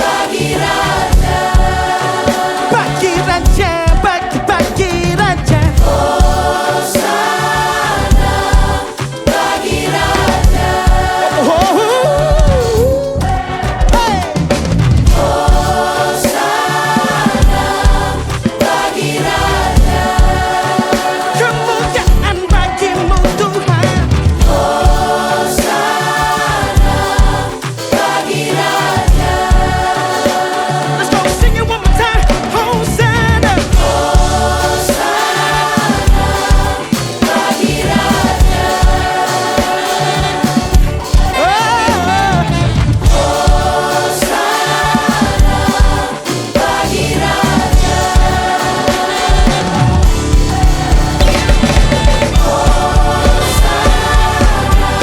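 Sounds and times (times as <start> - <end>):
band with drums and keyboards: 0.0 - 55.0
choir singing: 0.0 - 55.0.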